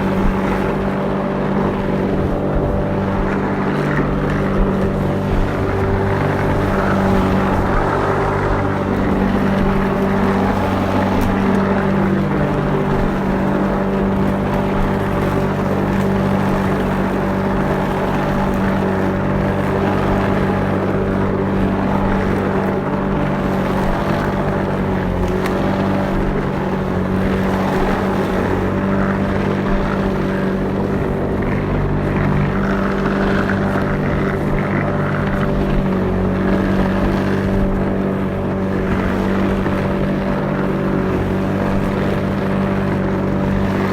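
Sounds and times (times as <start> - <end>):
lawnmower engine running: 0.0 - 43.9.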